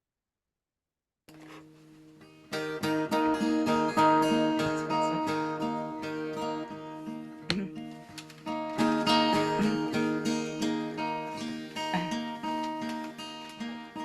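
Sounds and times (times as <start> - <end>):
acoustic guitar strumming chords: 1.3 - 14.0.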